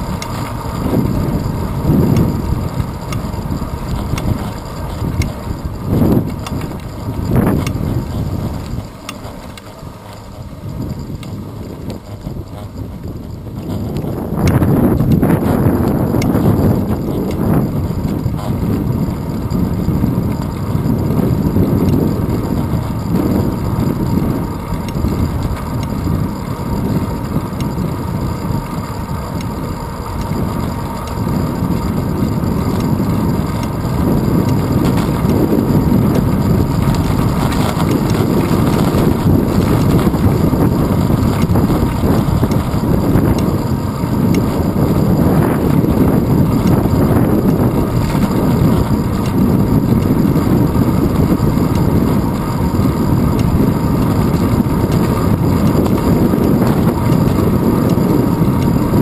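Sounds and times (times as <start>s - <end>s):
tyre noise on asphalt: 0.0s - 59.0s
wind rumbling on microphone: 0.0s - 59.0s.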